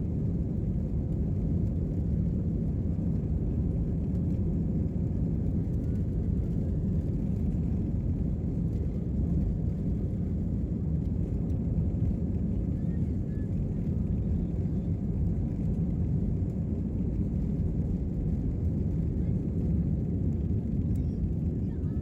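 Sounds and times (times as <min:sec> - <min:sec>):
jet airliner cabin drone: 0:00.0 - 0:22.0.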